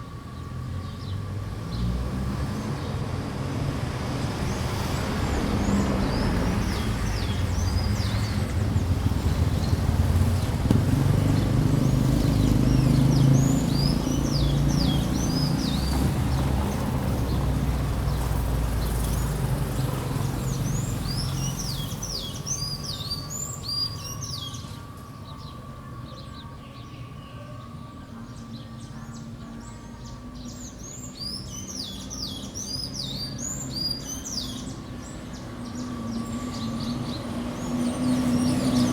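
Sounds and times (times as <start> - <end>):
vehicle engine rumble passing: 0.0 - 38.9
small birds chirping: 4.3 - 38.9.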